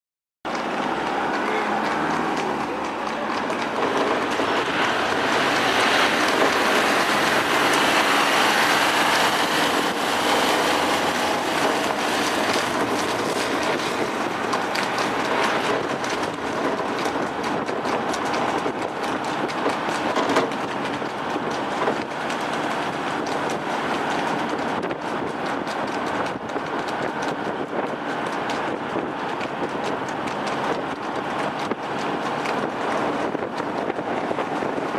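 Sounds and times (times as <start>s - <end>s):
horse hooves clattering: 0.5s - 34.9s
vehicle road noise: 0.5s - 34.9s.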